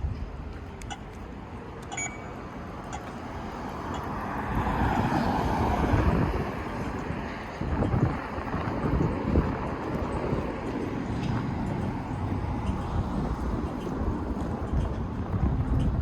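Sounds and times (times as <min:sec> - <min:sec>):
motor vehicle passing: 0:02.7 - 0:15.8.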